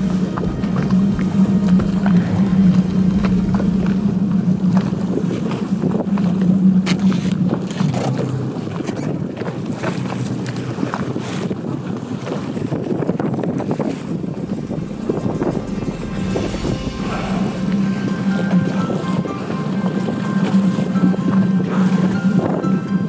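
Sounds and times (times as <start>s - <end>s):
boat engine humming: 0.0s - 23.0s
wind buffeting microphone: 0.0s - 23.0s.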